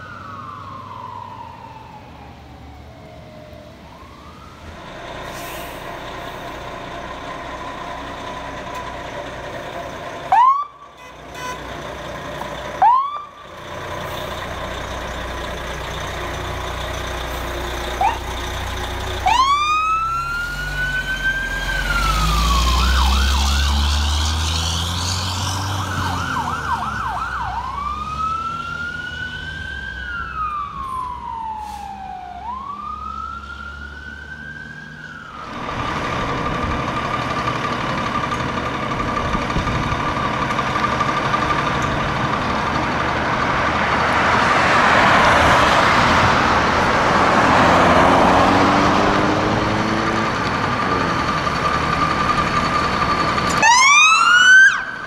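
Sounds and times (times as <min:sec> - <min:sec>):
fire engine siren: 0:00.0 - 0:08.4, 0:09.8 - 0:55.0
truck engine: 0:00.0 - 0:55.0.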